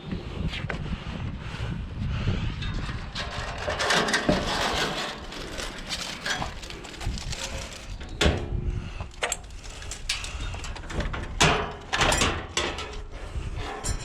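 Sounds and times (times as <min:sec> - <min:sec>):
scrap metal clanking and scraping: 0:02.6 - 0:14.0.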